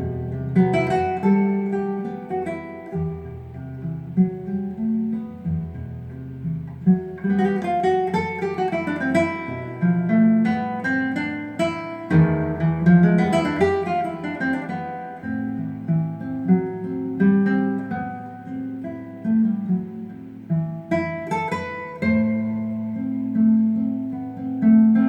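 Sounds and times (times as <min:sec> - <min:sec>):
acoustic guitar music from speaker: 0:00.0 - 0:25.0.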